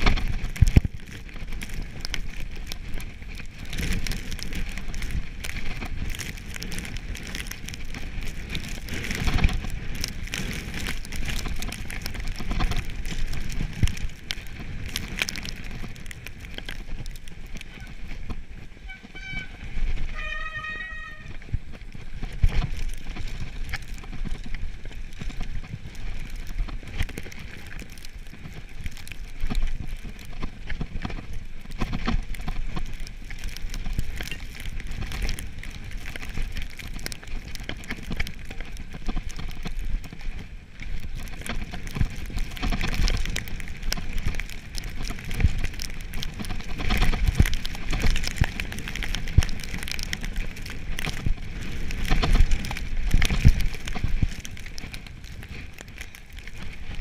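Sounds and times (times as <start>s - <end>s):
bike rattling and knocking: 0.0s - 57.0s
bike tyres crunching over snow: 0.0s - 57.0s
wind buffeting microphone: 0.0s - 57.0s.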